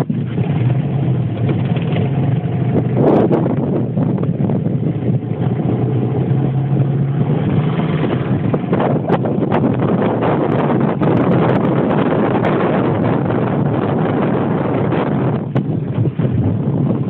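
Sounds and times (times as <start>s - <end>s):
boat motor running: 0.0s - 17.0s
water noise: 0.0s - 17.0s
wind on microphone: 0.0s - 17.0s.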